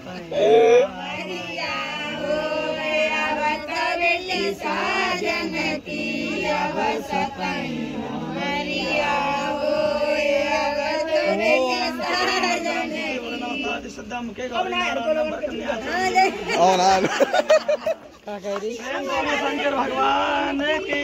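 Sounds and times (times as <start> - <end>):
group singing: 0.0 - 21.0.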